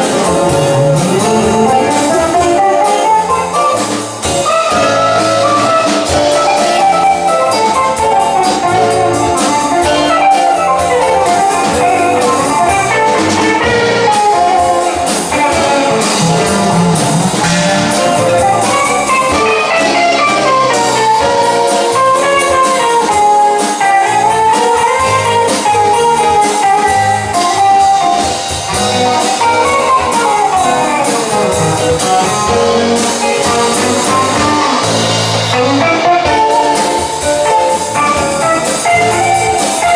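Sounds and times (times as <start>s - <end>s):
bass guitar: 0.0s - 39.9s
drums: 0.0s - 39.9s
guitars: 0.0s - 39.9s
solo melody line: 0.0s - 39.9s.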